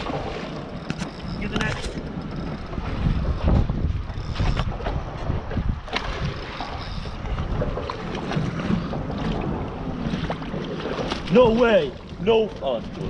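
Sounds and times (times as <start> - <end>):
water splashing beside boat: 0.0 - 13.0
wind gusting on microphone: 0.0 - 13.0.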